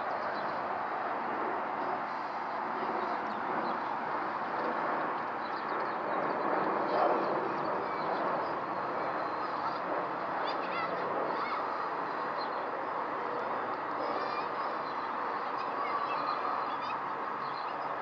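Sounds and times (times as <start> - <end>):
jet airliner passing overhead: 0.0 - 18.0.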